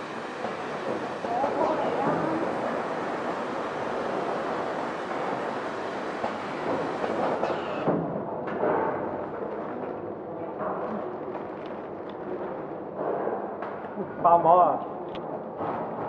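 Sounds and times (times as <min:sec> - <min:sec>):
packing machine running: 0:00.0 - 0:13.1.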